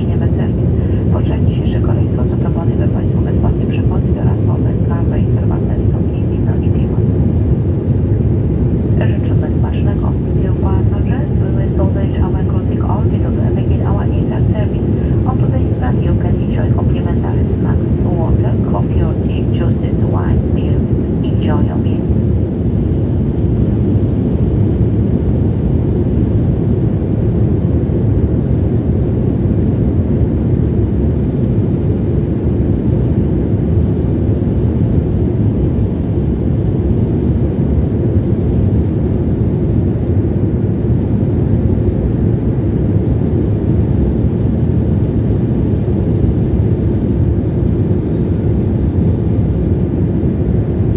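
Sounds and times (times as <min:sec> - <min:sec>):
airliner cabin drone: 0:00.0 - 0:50.9.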